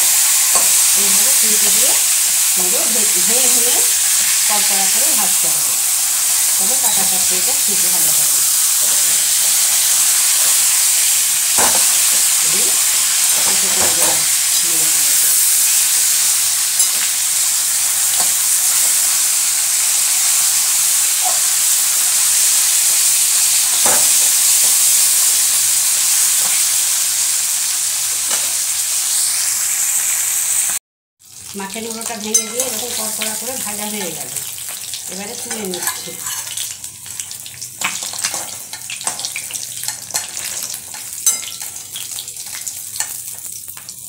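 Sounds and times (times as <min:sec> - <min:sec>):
fish sizzling in hot oil: 0:00.0 - 0:44.0.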